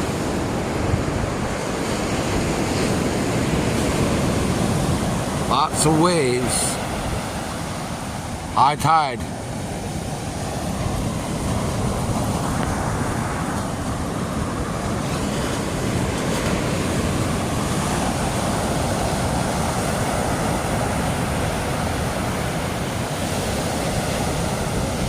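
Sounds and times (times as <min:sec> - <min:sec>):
heavy surf breaking: 0:00.0 - 0:25.0
wind on microphone: 0:00.0 - 0:25.0.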